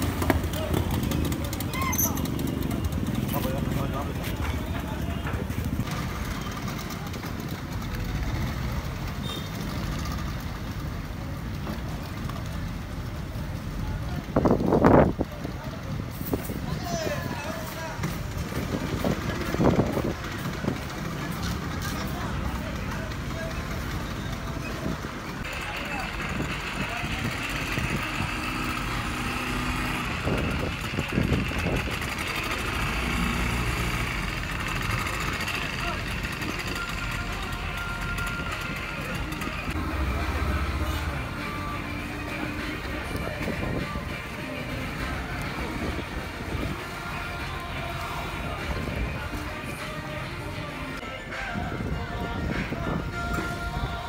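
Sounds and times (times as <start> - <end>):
outboard engines rumbling: 0.0 - 54.0.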